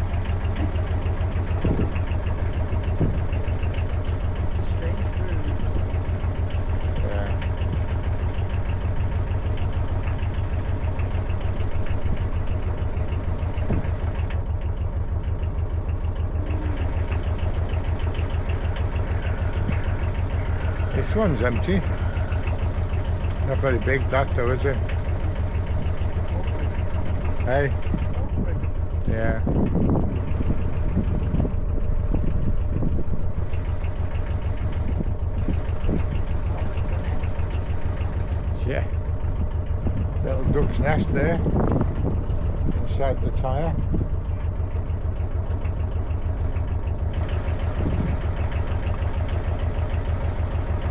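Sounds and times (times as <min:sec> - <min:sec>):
boat engine throbbing: 0:00.0 - 0:50.9.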